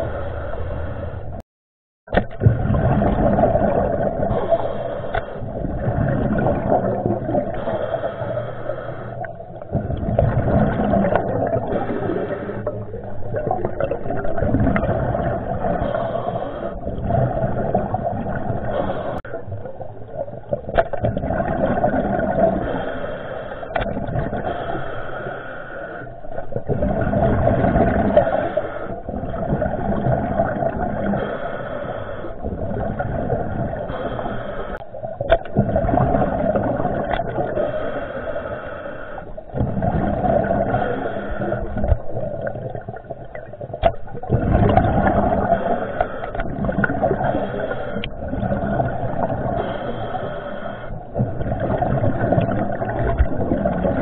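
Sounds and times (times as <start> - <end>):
muffled underwater water rushing: 0.0 - 1.4, 2.1 - 54.0.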